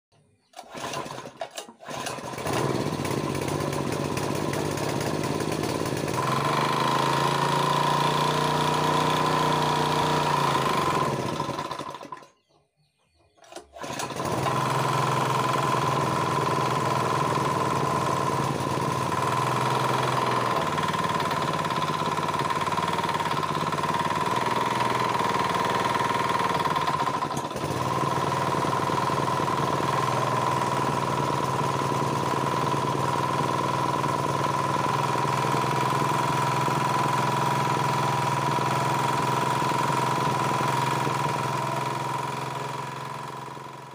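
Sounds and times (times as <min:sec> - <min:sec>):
small pump engine running: 0:00.2 - 0:12.5, 0:13.4 - 0:43.9
engine pull-start bursts: 0:00.2 - 0:12.6, 0:13.3 - 0:43.9.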